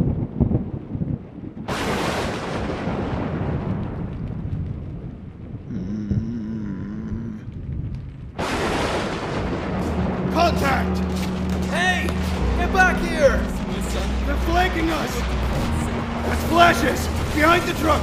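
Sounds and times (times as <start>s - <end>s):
thunder crack and rumble: 0.0s - 18.0s.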